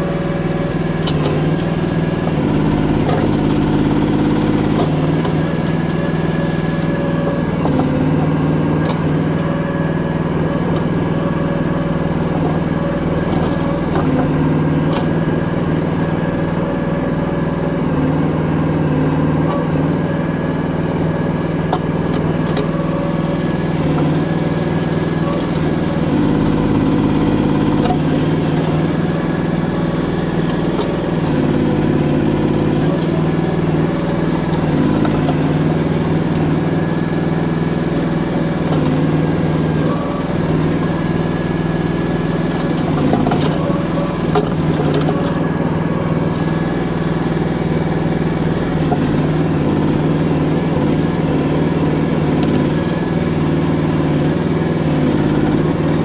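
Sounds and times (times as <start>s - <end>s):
mini excavator engine running: 0.0s - 56.0s.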